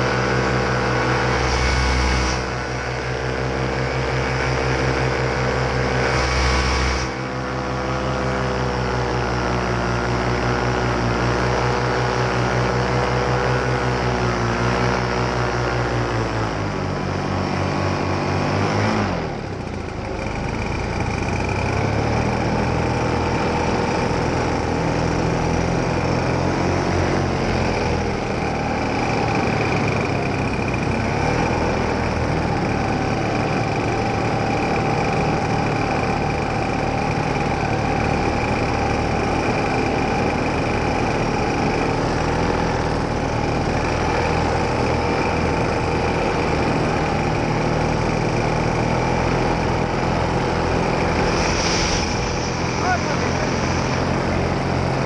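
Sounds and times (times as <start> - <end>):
paramotor engine droning: 0.0 - 55.0.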